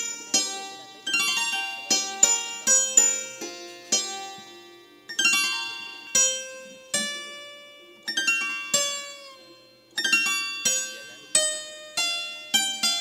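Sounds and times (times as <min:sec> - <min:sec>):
plucked zither notes: 0:00.0 - 0:13.0.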